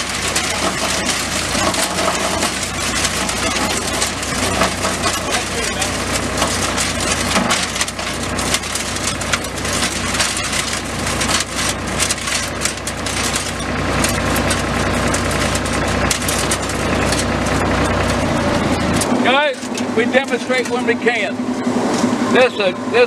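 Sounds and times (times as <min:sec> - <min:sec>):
tractor engine hum: 0:00.0 - 0:23.0
wood chipper crackling and clattering: 0:00.0 - 0:23.0.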